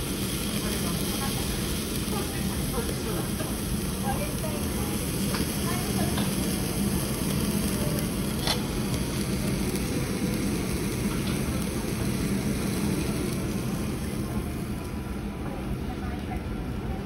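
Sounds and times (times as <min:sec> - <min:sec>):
beef sizzling on grill: 0:00.0 - 0:15.0.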